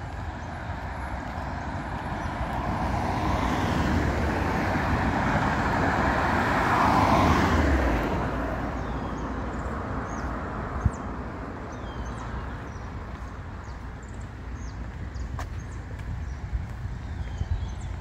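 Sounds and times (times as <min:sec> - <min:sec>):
car passing: 0:00.0 - 0:18.0
street background: 0:00.0 - 0:18.0.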